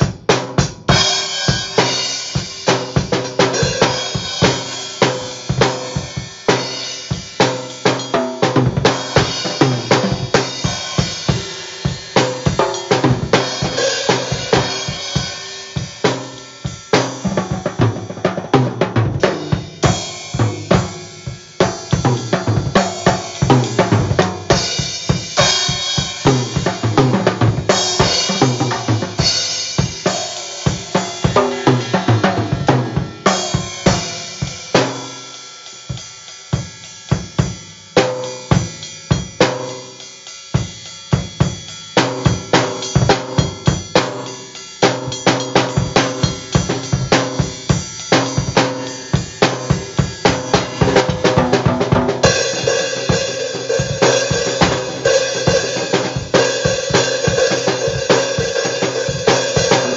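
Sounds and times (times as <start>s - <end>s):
cymbal strikes: 0.9s - 18.4s, 19.2s - 59.9s.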